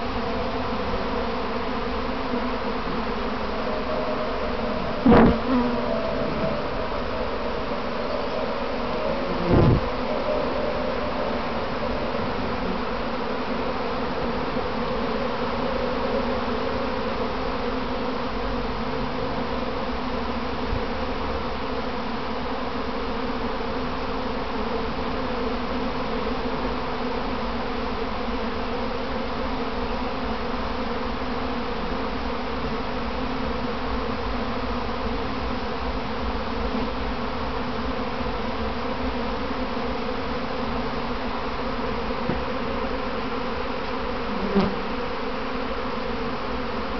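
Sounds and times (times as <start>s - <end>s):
honeybee swarm droning: 0.0s - 46.9s.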